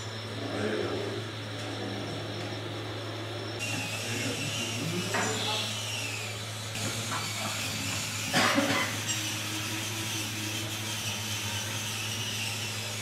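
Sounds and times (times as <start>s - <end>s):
electric motors buzzing whine: 0.0s - 13.0s
higher motor whine: 0.0s - 13.0s
steady low hum: 0.0s - 13.0s.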